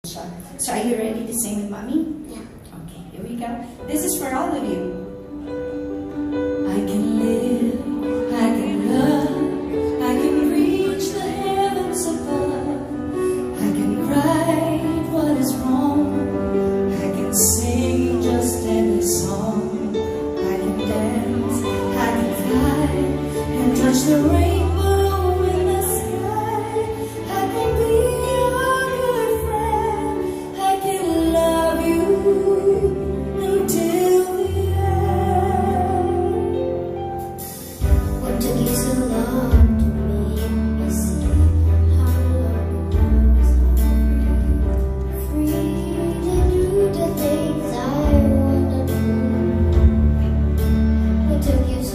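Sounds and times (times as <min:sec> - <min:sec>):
instrumental accompaniment with bass: 0:05.0 - 0:51.9
woman singing: 0:06.4 - 0:51.9.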